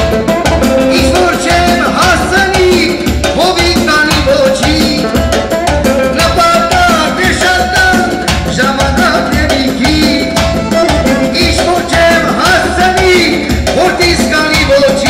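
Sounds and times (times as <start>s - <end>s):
electronic keyboard with beat: 0.0s - 15.0s
man singing into a microphone: 0.0s - 15.0s.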